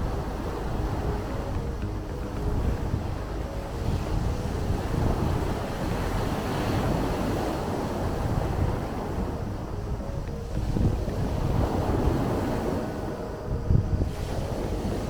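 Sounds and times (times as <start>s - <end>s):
sea waves washing in: 0.0s - 15.0s
wind buffeting microphone: 0.0s - 15.0s.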